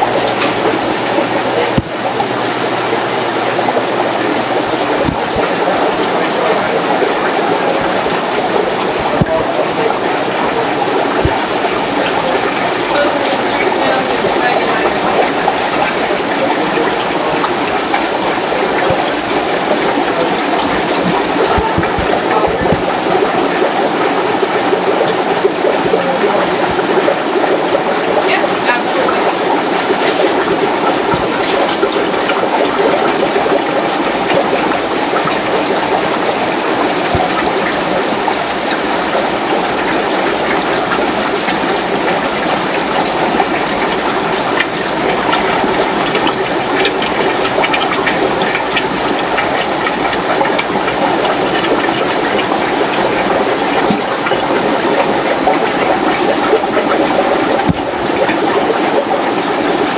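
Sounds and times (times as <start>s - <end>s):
aquarium water bubbling: 0.0s - 59.9s
small water splashes: 0.0s - 59.9s.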